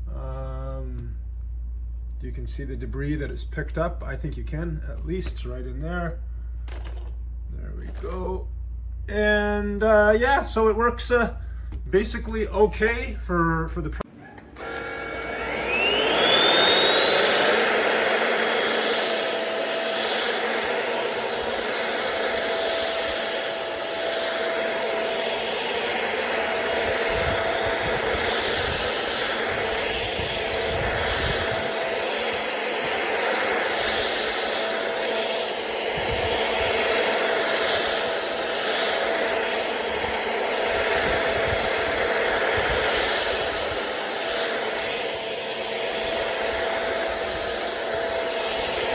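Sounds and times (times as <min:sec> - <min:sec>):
stick vacuum motor whine: 0:00.0 - 0:48.9.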